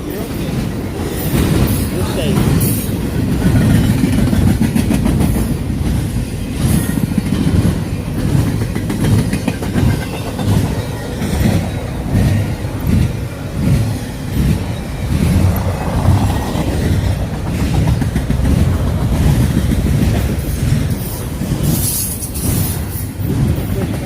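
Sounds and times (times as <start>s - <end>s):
freight train rumbling: 0.0s - 24.0s
wheel clatter over rail joints: 0.0s - 24.0s.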